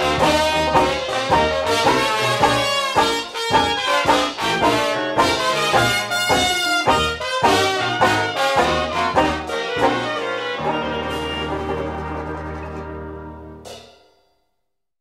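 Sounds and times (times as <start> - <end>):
jazz band playing: 0.0 - 13.7.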